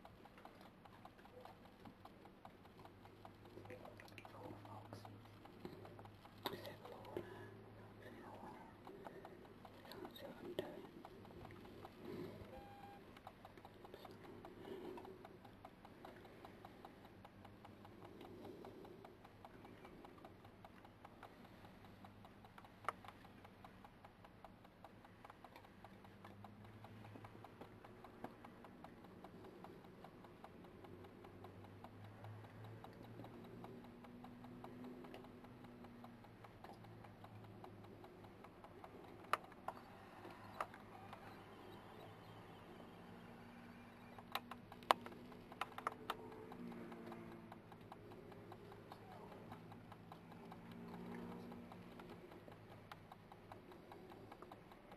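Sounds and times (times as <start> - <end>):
faint low night hum: 0.0 - 54.9
sharp clicks: 0.0 - 54.9.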